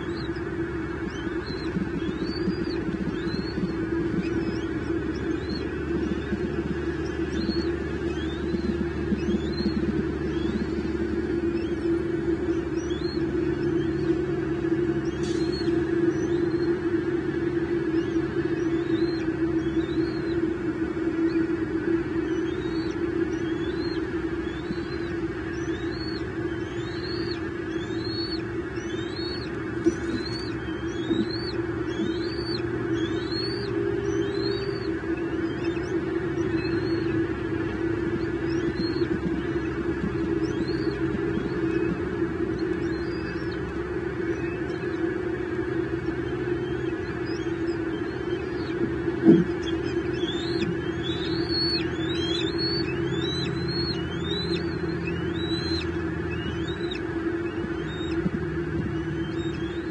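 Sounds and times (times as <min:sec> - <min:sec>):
eaglet high whistled calls: 0:00.0 - 0:59.9
steady low hum: 0:00.0 - 0:59.9.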